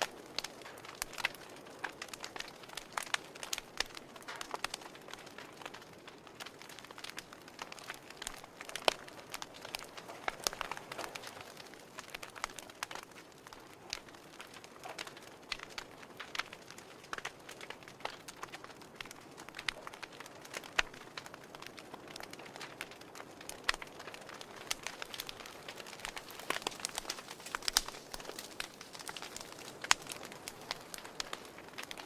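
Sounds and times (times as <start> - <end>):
fire crackling: 0.0 - 32.0.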